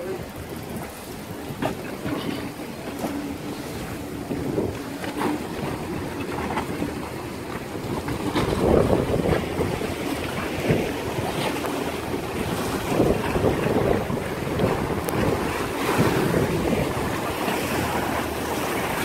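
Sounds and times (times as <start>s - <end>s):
waves and surf splashing: 0.0s - 19.0s
wind gusting on microphone: 0.0s - 19.0s.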